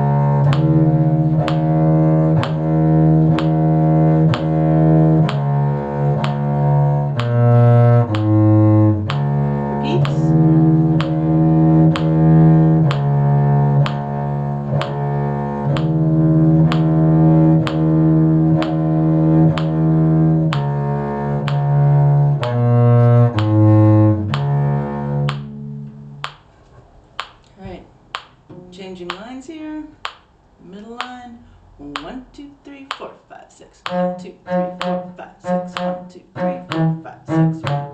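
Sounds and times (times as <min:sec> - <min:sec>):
cello bowed bass line: 0:00.0 - 0:26.5, 0:28.1 - 0:28.9, 0:33.8 - 0:37.9
metronome clicking: 0:00.1 - 0:26.5, 0:27.2 - 0:27.5, 0:28.1 - 0:29.4, 0:31.9 - 0:33.2, 0:33.8 - 0:37.9.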